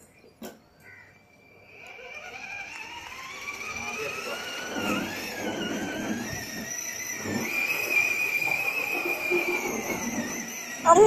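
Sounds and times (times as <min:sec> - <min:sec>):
plastic wheels rolling on concrete: 0:00.4 - 0:11.0
toy car electric motor whine: 0:00.4 - 0:11.0.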